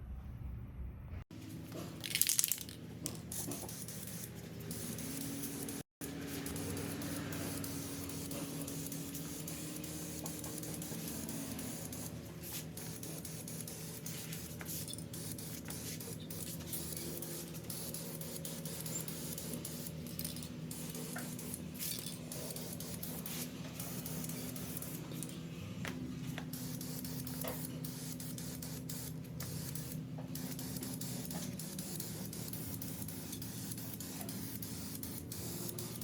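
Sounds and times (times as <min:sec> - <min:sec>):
spray paint can hissing: 0:02.0 - 0:25.3, 0:26.4 - 0:36.0.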